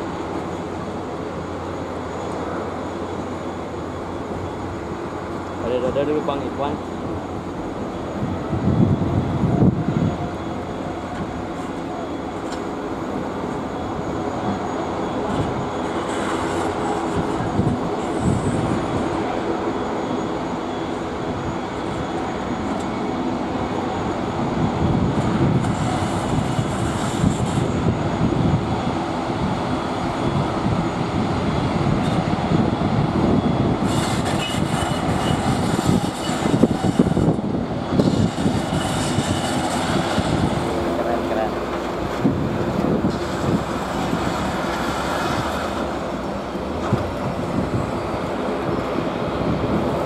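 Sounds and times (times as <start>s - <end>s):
jet engines rumbling: 0.0s - 50.0s.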